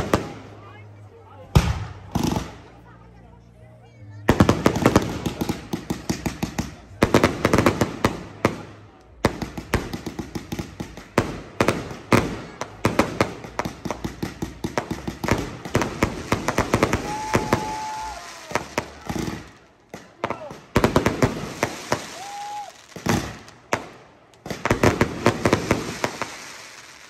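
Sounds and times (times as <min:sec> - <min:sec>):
fireworks bangs and crackles: 0:00.0 - 0:02.9, 0:04.2 - 0:27.0.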